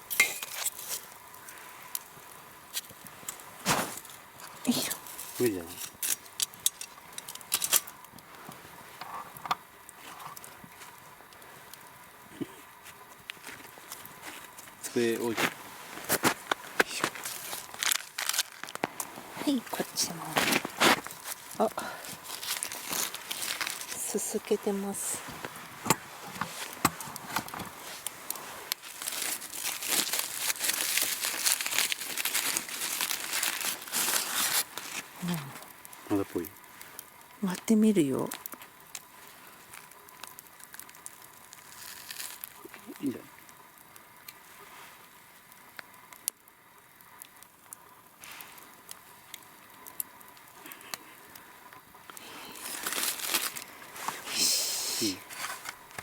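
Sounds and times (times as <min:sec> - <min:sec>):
aluminium foil crinkling: 0:00.0 - 0:56.0
campfire crackling and popping: 0:00.0 - 0:56.0.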